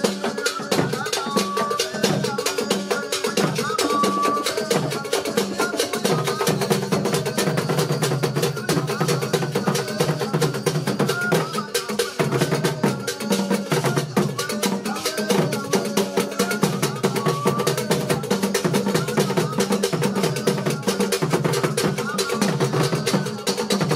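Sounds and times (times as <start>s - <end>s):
fast drumming: 0.0s - 23.9s.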